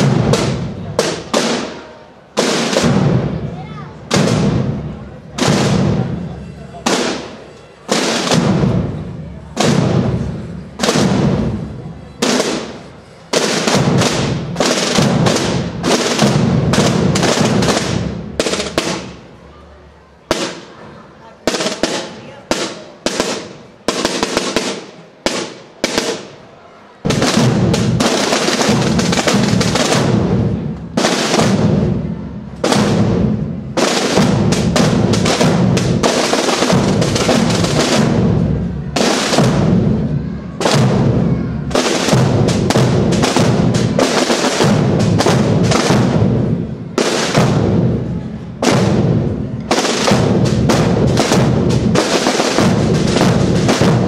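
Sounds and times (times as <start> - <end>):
drum band marching rhythm: 0.0 - 1.8, 2.4 - 19.2, 20.3 - 20.7, 21.5 - 26.3, 27.0 - 54.0.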